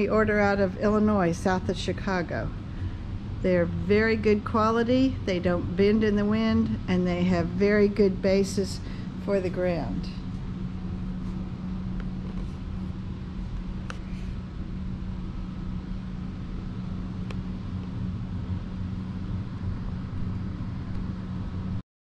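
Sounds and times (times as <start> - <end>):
low mechanical hum: 0.0 - 21.8.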